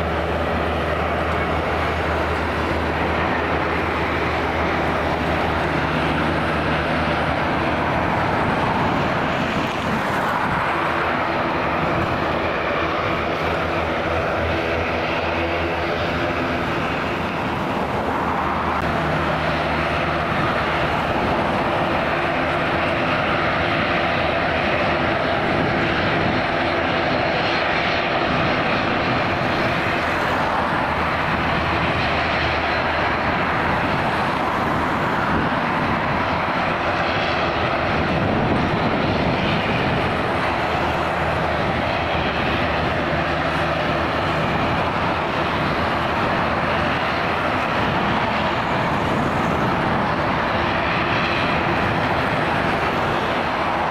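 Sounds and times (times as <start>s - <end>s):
jet engines at takeoff: 0.0s - 53.9s
turboprop engines running: 0.0s - 53.9s.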